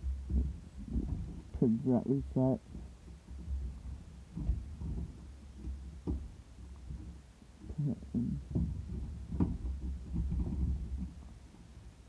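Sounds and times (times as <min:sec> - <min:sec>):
microphone handling rumble: 0:00.0 - 0:11.4.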